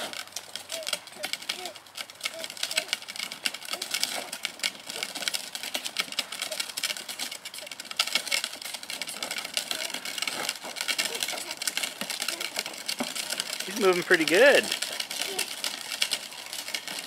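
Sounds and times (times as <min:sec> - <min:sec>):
toy bike wheels clicking rattle: 0:00.0 - 0:17.0.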